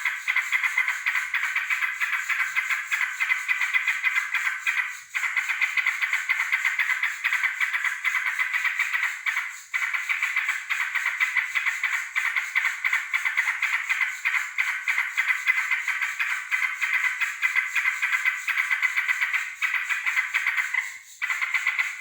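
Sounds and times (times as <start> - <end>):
bird chattering song: 0.0 - 22.0.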